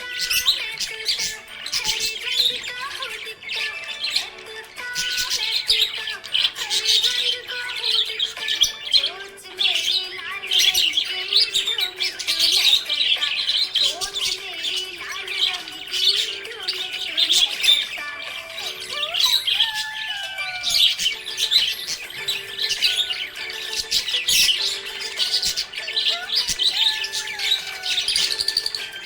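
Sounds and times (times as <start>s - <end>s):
budgerigars chirping: 0.0s - 29.0s.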